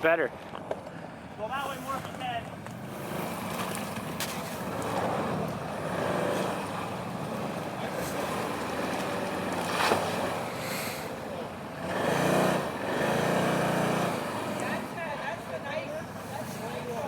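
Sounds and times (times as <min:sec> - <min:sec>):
vehicle engine running: 0:00.8 - 0:17.0.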